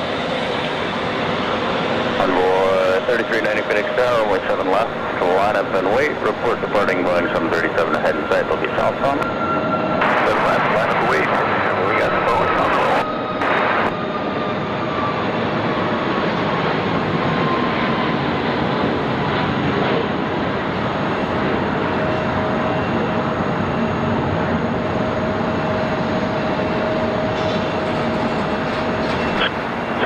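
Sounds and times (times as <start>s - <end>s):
jet engines roaring with whine: 0.0s - 30.0s.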